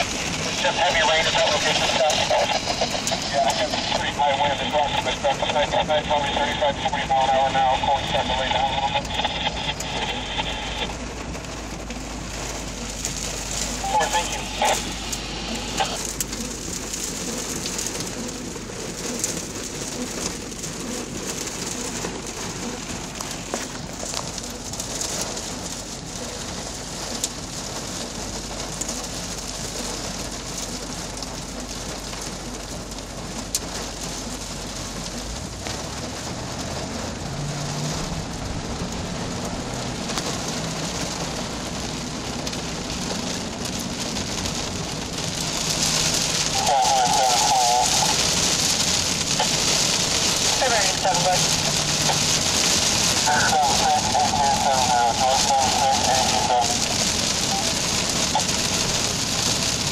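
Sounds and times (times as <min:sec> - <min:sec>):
heavy rain on a car: 0:00.0 - 0:59.9.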